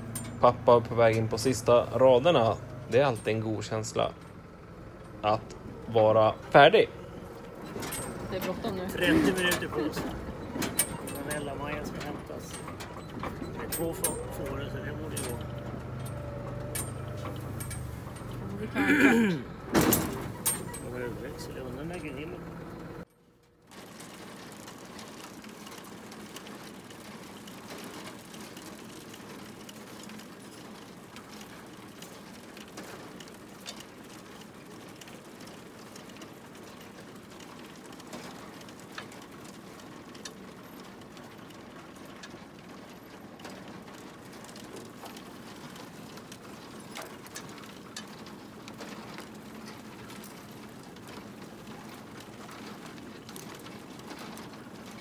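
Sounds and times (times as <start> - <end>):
potatoes tumbling over rods: 0.0 - 23.0, 23.6 - 55.0
harvester chains rattling: 0.0 - 55.0.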